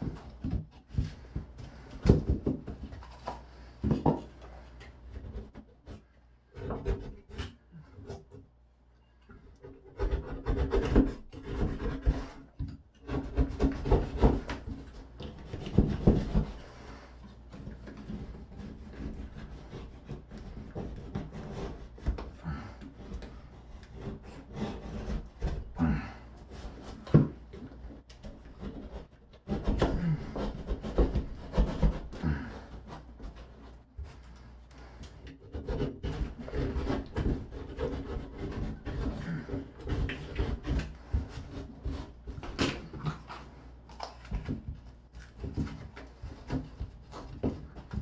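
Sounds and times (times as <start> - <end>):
hand tool scraping drywall: 0.0 - 8.5, 9.3 - 48.0.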